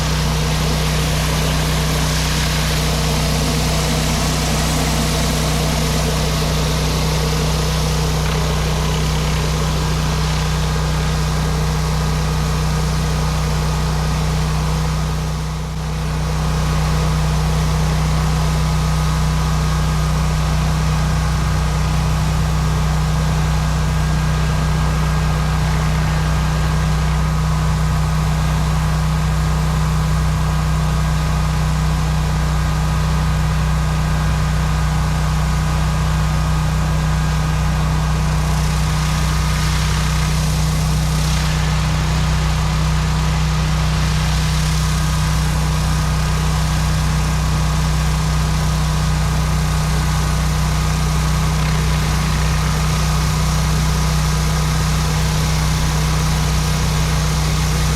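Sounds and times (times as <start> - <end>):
water spray hissing on concrete: 0.0 - 30.0, 34.7 - 57.9
pressure washer engine humming: 0.0 - 57.9.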